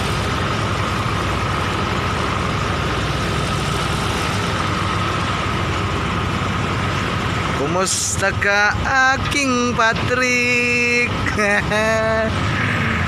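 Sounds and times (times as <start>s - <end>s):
diesel engine idling: 0.0s - 13.0s
engine whine: 0.0s - 13.0s.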